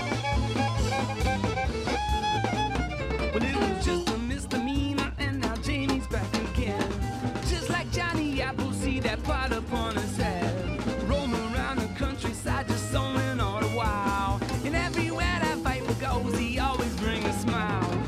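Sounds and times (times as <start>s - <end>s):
drums keeping a steady beat: 0.0s - 18.0s
fiddle: 0.0s - 18.0s
guitar: 0.0s - 18.0s
sliding lead melody: 0.0s - 18.0s
upright bass: 0.0s - 18.0s.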